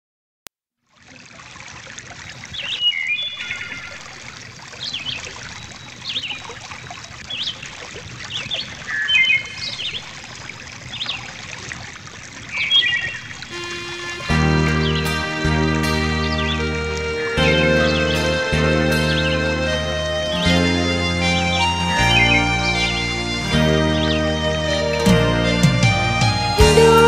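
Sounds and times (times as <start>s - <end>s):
water trickling: 0.8s - 27.0s
songbirds chirping: 2.3s - 10.2s, 12.5s - 26.6s.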